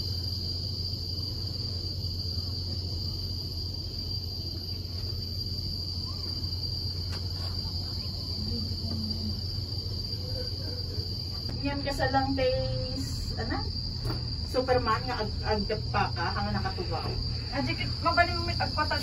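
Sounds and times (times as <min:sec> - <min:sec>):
insects droning: 0:00.0 - 0:19.0
low steady rumble: 0:00.0 - 0:19.0.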